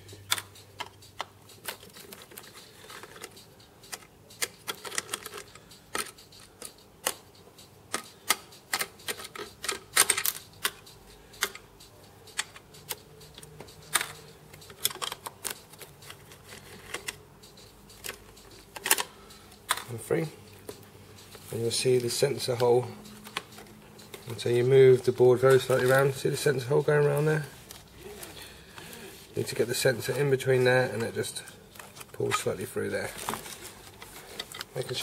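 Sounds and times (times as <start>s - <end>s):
small parts being handled: 0.2s - 7.2s, 12.3s - 20.0s, 20.6s - 35.0s.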